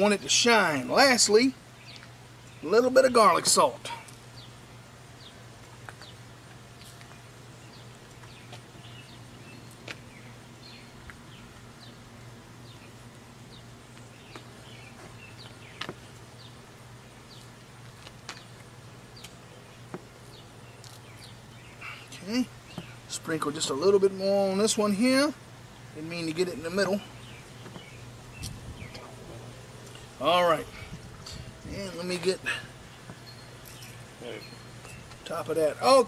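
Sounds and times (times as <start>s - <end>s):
small birds chirping: 0.0s - 36.0s
steady low hum: 0.0s - 36.0s.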